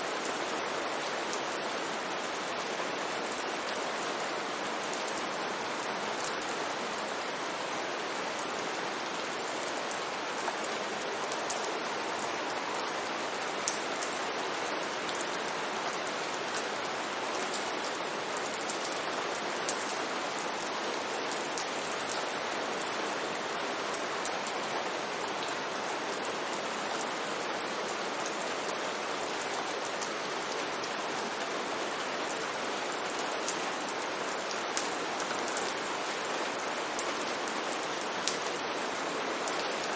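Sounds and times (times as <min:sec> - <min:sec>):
rain drops ticking: 0:00.0 - 0:39.9
rain falling on street: 0:00.0 - 0:39.9.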